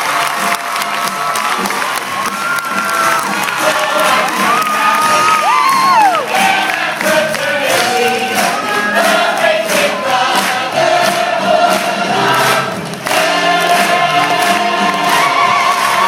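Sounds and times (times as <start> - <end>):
audience clapping and cheering: 0.0 - 16.0.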